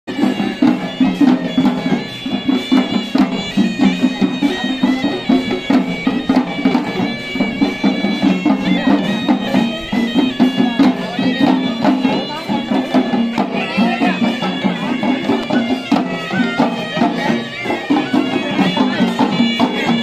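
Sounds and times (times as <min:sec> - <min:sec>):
fast continuous drumming: 0:00.1 - 0:20.0
reedy shawm melody: 0:00.1 - 0:20.0.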